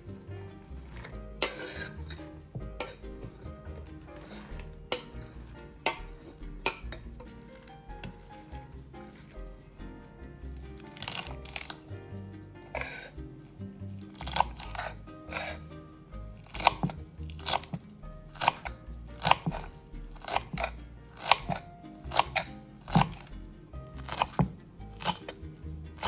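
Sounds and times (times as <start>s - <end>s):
knife cutting vegetables: 0.0s - 26.0s
soft background music: 0.0s - 26.0s.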